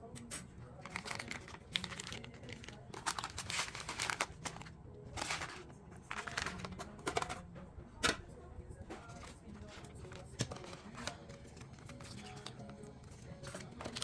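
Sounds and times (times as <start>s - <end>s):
plastic packaging crinkling: 0.8s - 7.3s, 8.9s - 14.0s.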